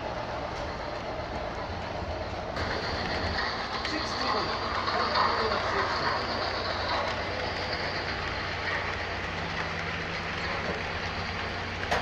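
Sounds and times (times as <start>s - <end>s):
low hum: 0.0s - 12.0s
model train rolling: 0.0s - 12.0s.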